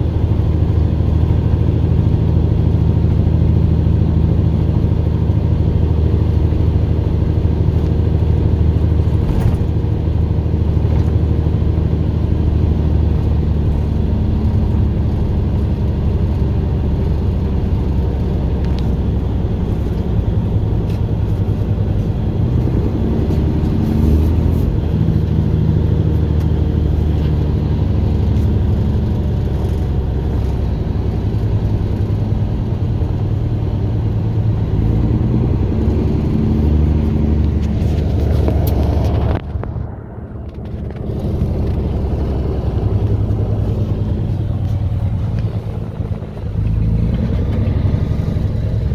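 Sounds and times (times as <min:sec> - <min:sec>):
heavy diesel truck engine running: 0:00.0 - 0:48.9.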